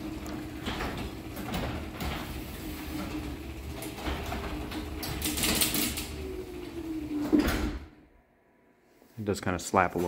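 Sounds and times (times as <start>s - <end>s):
garage door opener motor hum: 0.0s - 8.2s.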